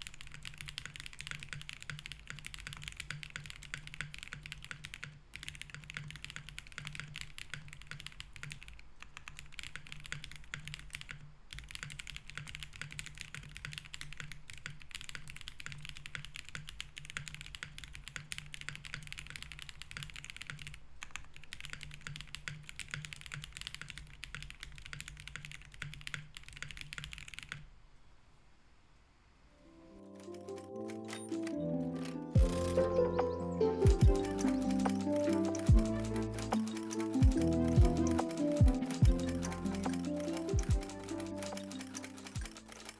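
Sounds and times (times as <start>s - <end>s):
mechanical keyboard typing: 0.0s - 27.7s, 30.0s - 42.9s.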